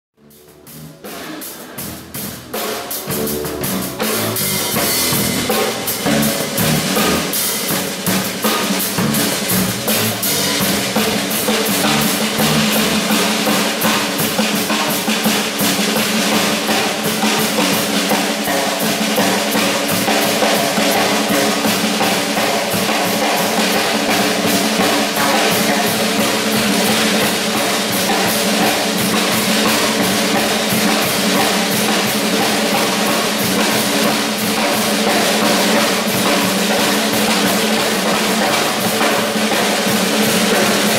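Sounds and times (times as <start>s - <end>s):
drum solo on drum kit: 0.2s - 40.9s.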